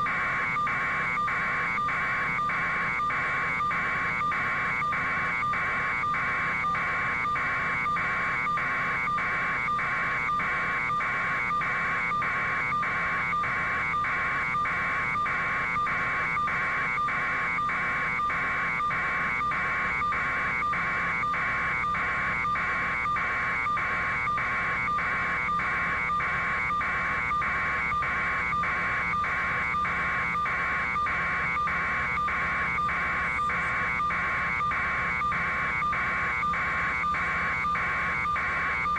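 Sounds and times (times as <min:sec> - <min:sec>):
pulsing electronic alarm beeps: 0:00.0 - 0:38.9.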